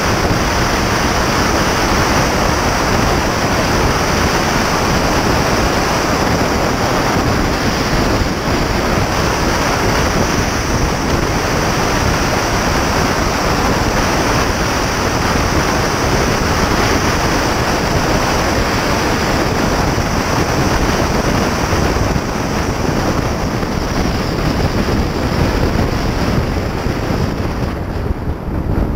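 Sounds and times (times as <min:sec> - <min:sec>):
tyre and road noise: 0:00.0 - 0:28.9
wind buffeting microphone: 0:00.0 - 0:28.9.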